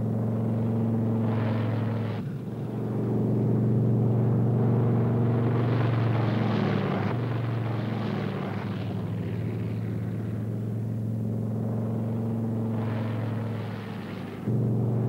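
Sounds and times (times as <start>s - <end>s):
propeller plane engines droning: 0.0s - 15.0s.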